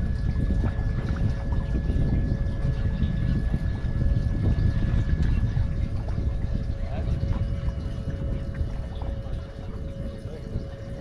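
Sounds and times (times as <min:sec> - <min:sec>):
faint steady whine: 0:00.0 - 0:11.0
wind buffeting microphone: 0:00.0 - 0:11.0.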